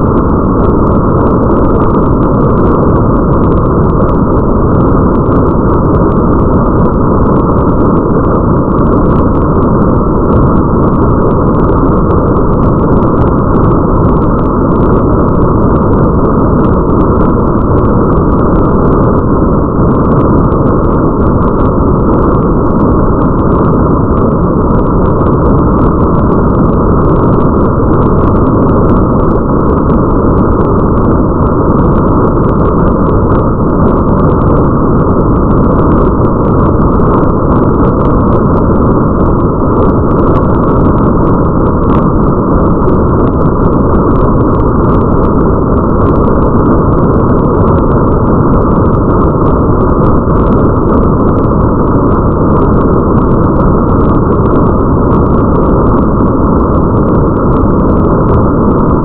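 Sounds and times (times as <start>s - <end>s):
muffled rain: 0.0s - 59.0s.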